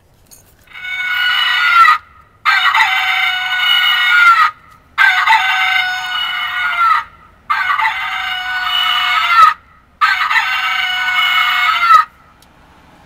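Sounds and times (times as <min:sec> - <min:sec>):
rooster crowing: 0:00.7 - 0:12.2.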